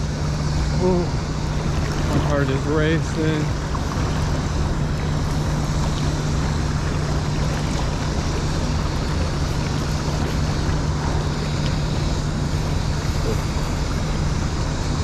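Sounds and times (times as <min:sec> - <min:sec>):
constant low hum: 0:00.0 - 0:15.0
fast river current rushing: 0:00.0 - 0:15.0.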